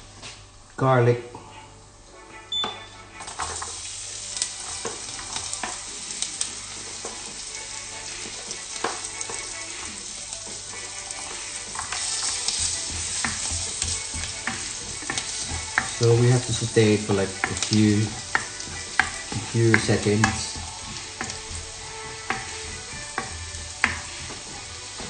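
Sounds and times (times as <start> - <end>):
garlic sizzling in butter: 3.2 - 25.0
spatula scraping a wok: 3.4 - 25.0.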